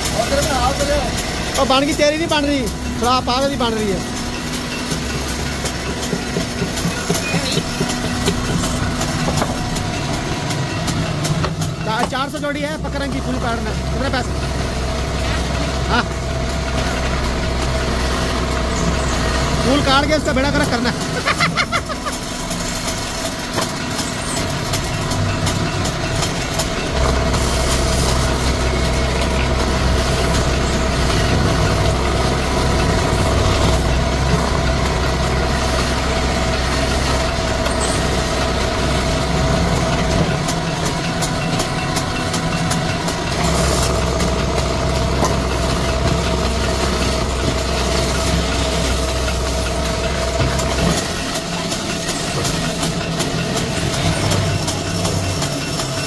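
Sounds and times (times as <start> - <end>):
wood lathe humming: 0.0 - 56.0.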